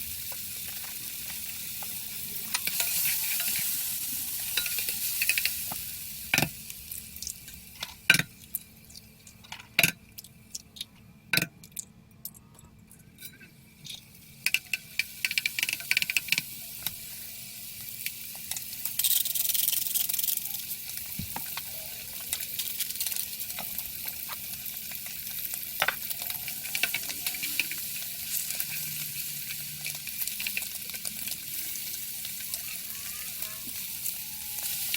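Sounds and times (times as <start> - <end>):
food sizzling in a pan: 0.0 - 9.8, 14.0 - 34.9.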